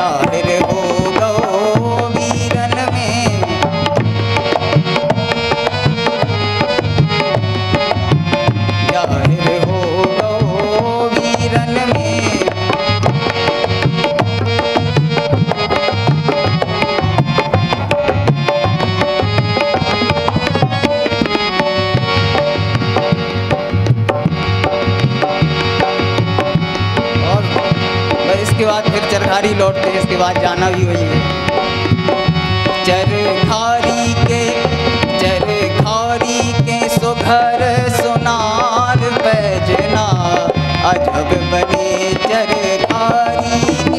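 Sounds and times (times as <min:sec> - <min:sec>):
held melody notes: 0:00.0 - 0:43.9
tabla rhythm: 0:00.0 - 0:43.9.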